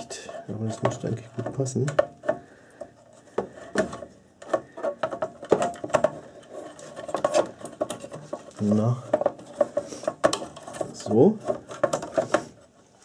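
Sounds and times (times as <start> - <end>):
clicks knocks and scrapes: 0.2 - 12.8.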